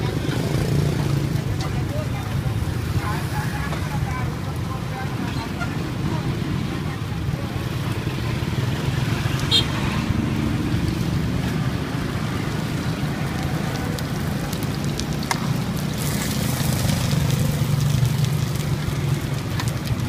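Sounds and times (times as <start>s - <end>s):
cakes sizzling in oil on griddle: 0.0s - 20.0s
motorbike engines: 0.0s - 20.0s
street traffic drone: 0.0s - 20.0s.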